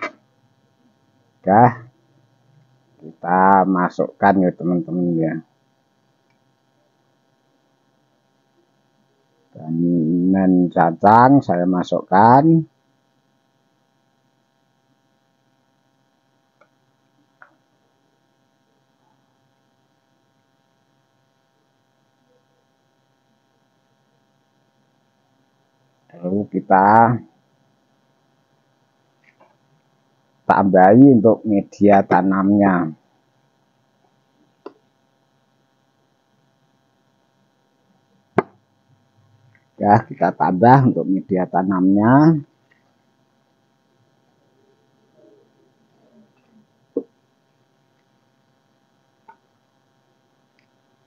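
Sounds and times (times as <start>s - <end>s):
faint electrical hum: 0.0s - 51.0s.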